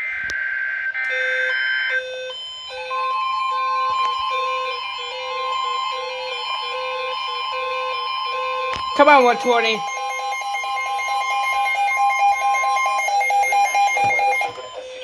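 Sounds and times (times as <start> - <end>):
steady high alert tone: 2.3 - 15.0.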